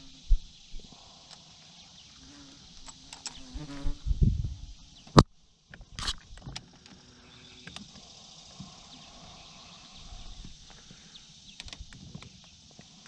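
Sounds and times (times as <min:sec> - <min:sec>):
high buzz of insects: 0:00.0 - 0:13.0.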